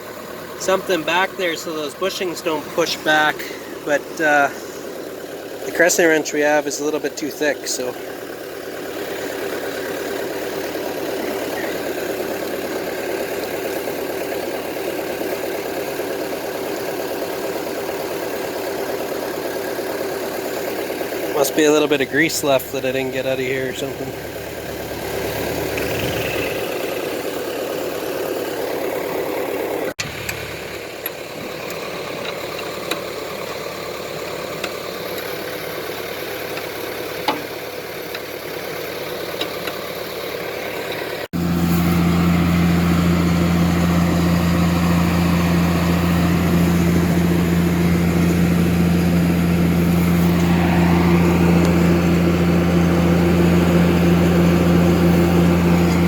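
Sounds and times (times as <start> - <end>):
engine running: 0.0 - 56.0
steady engine hum: 0.0 - 56.0.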